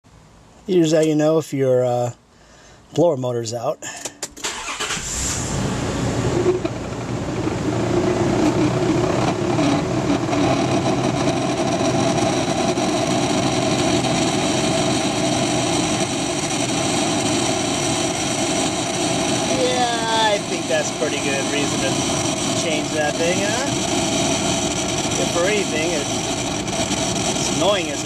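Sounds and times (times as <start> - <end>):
blower motor whirring whine: 5.0 - 28.0.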